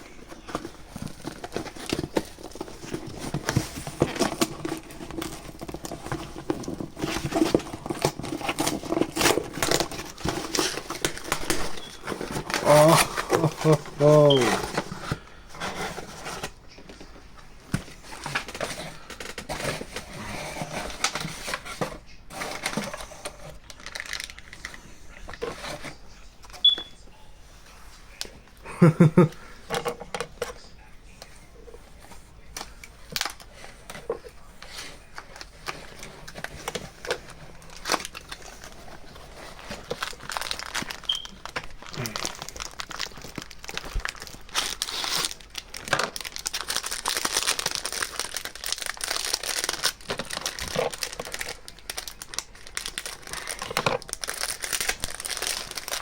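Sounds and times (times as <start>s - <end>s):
plastic packaging crinkling: 0.0s - 27.0s, 28.1s - 56.0s.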